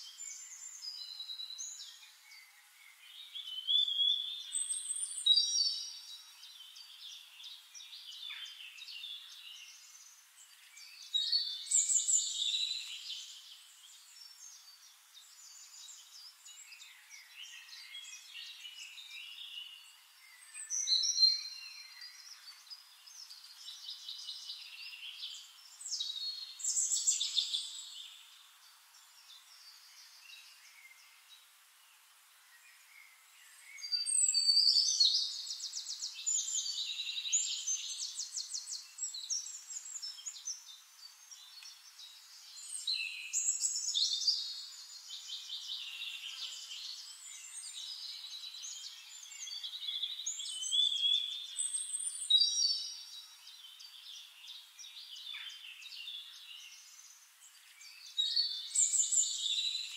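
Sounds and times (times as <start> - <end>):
birds singing chirps and trills: 0.0 - 59.9.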